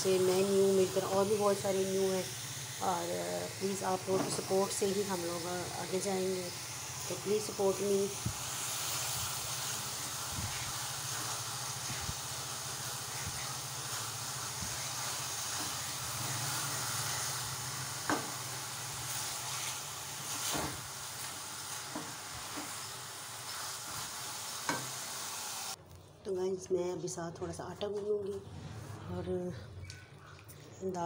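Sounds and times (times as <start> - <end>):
lentils sizzling in hot oil: 0.0 - 25.8.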